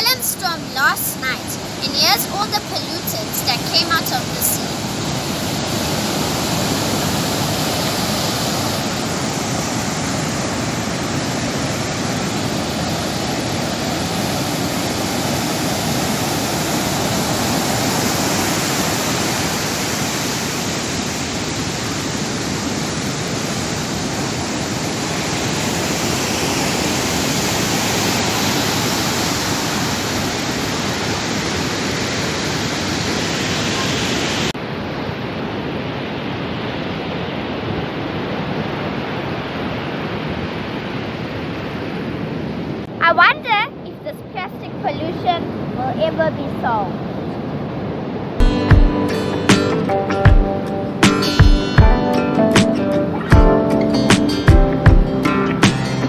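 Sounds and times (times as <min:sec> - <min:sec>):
sea surf breaking: 0:00.0 - 0:56.0.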